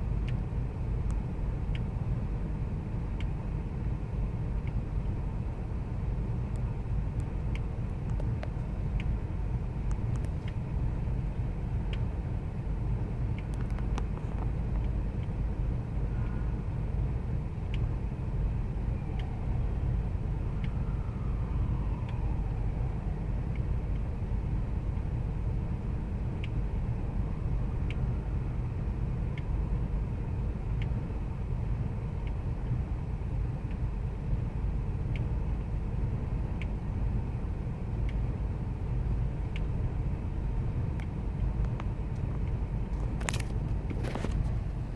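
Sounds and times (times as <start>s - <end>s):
faint engine ticks: 0.0s - 44.9s.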